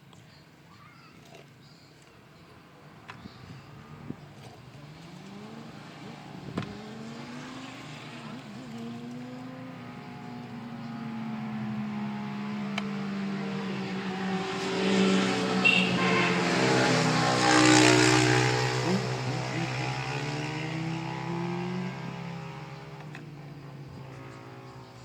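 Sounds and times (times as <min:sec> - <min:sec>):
motor engine approaching: 0:02.9 - 0:25.0.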